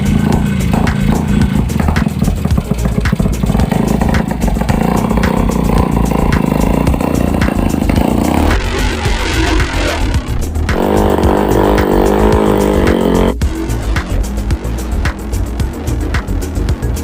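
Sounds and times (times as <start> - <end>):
boat engine running rough: 0.0 - 17.0.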